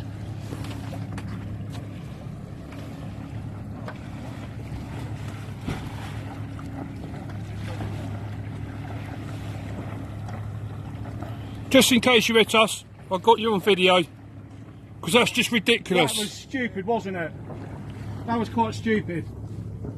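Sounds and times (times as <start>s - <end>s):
boat engine running: 0.0s - 19.9s
wind and water rushing: 0.0s - 19.9s.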